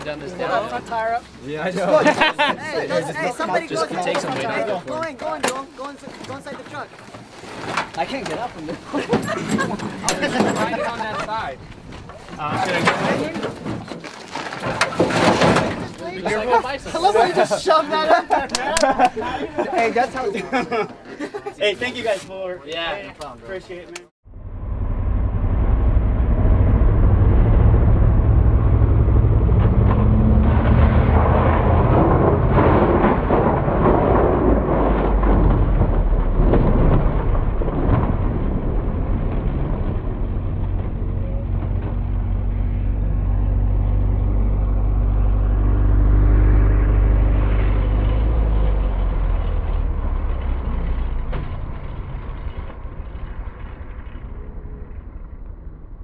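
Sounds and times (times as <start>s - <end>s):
low engine rumble: 0.0s - 22.0s, 23.1s - 56.0s
road and wind noise: 0.0s - 56.0s.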